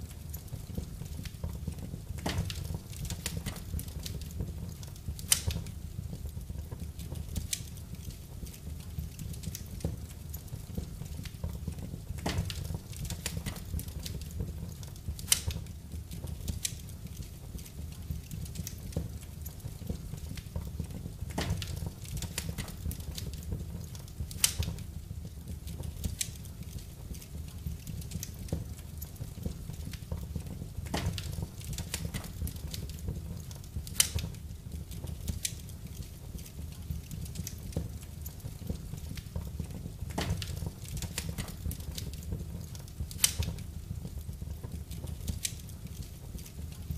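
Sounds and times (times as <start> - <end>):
low fire rumble: 0.0 - 46.9
wood fire crackling: 0.0 - 46.9.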